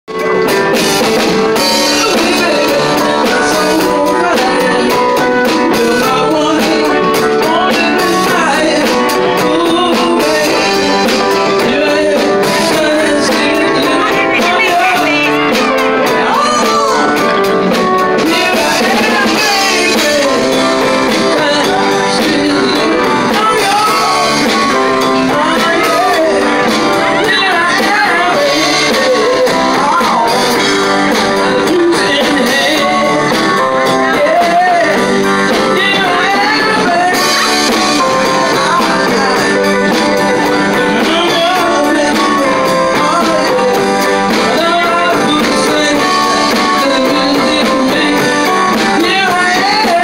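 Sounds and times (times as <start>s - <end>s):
live blues band playing: 0.1s - 50.0s
woman singing into microphone: 1.1s - 50.0s.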